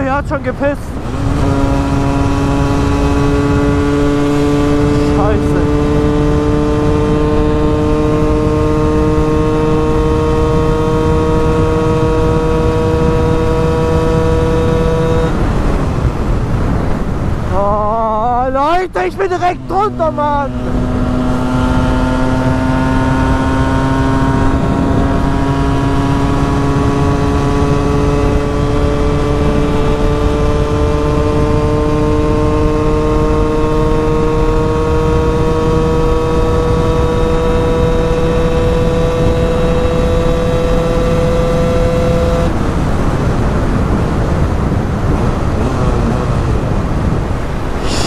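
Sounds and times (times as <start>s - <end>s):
motorcycle engine at high revs: 0.0s - 48.0s
wind and road noise: 0.0s - 48.0s.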